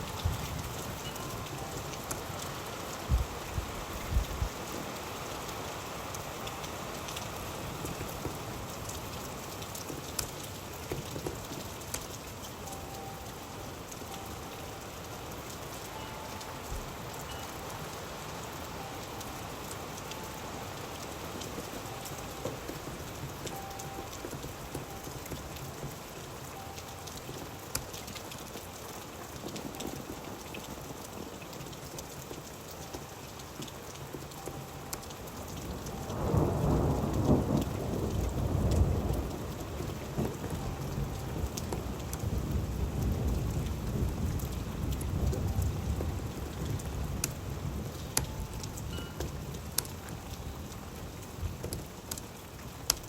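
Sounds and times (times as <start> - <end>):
steady rain falling: 0.0 - 53.0
water drips ticking: 0.0 - 53.0.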